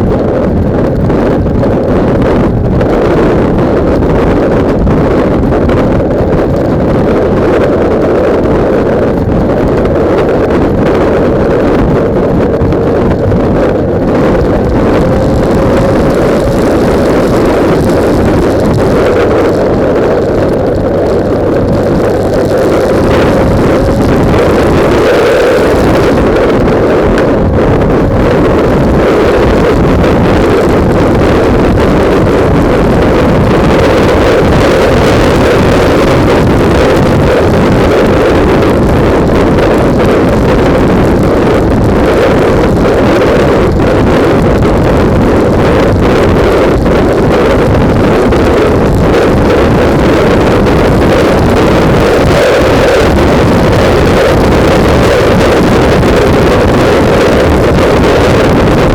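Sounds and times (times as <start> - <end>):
faint motorcycle engine drone: 0.0 - 58.9
wind buffeting microphone: 0.0 - 58.9.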